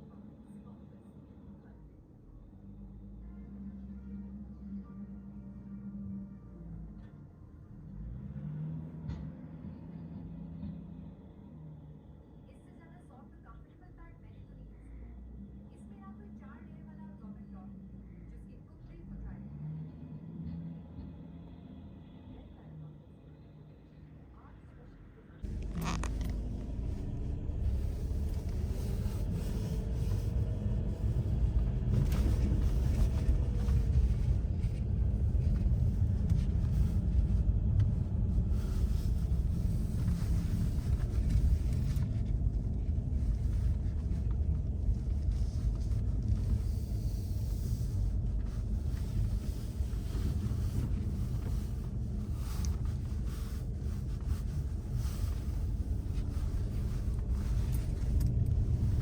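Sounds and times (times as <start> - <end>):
motor vehicle low rumble: 0.0 - 59.0.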